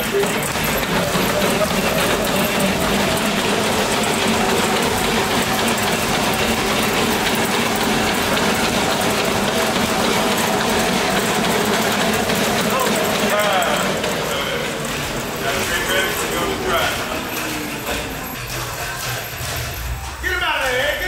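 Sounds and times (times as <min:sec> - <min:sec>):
treadmill belt slats clattering: 0:00.0 - 0:19.4.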